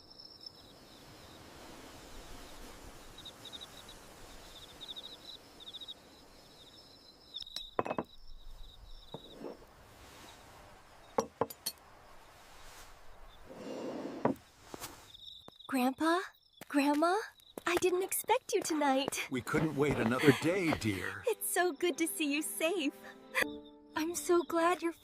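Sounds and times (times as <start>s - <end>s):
crickets trilling: 0.0s - 22.6s, 23.3s - 25.0s.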